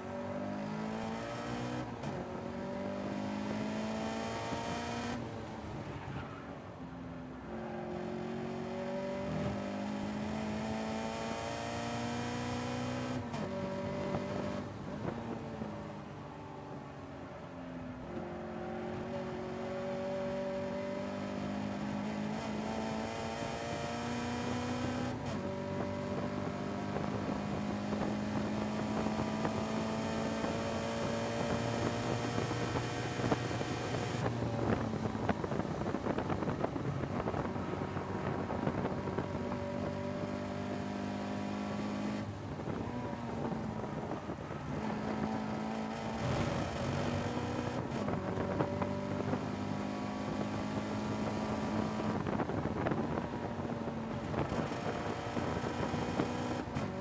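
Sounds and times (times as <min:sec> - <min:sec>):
car engine accelerating hard: 0:00.1 - 0:06.4, 0:07.4 - 0:16.0, 0:18.0 - 0:57.0.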